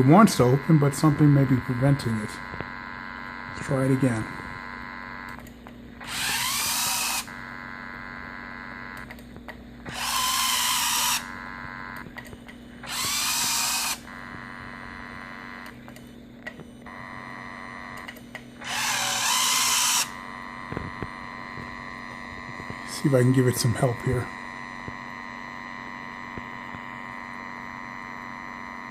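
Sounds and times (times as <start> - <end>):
small electric motor whirring: 0.0 - 9.1, 9.8 - 12.2, 12.8 - 15.8, 16.9 - 28.9
steady electrical hum: 0.0 - 28.9.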